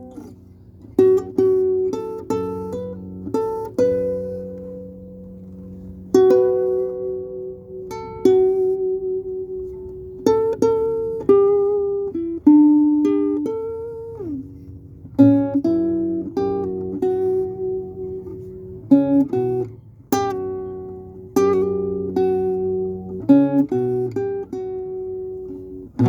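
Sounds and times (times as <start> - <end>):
acoustic guitar plucked notes: 0.0 - 26.0.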